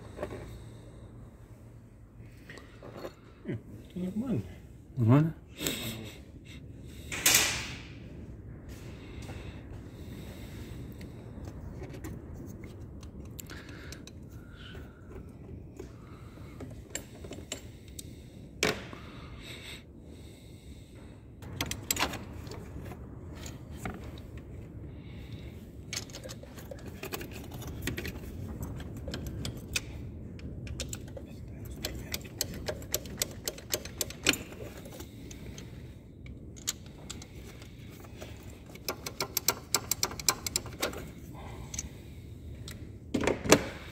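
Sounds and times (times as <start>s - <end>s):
low hum: 0.0s - 43.1s.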